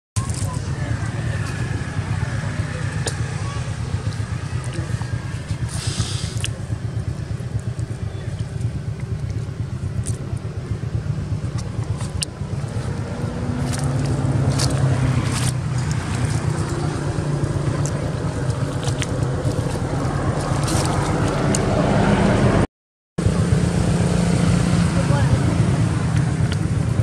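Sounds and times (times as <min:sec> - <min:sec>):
motor engine humming: 0:00.2 - 0:27.0.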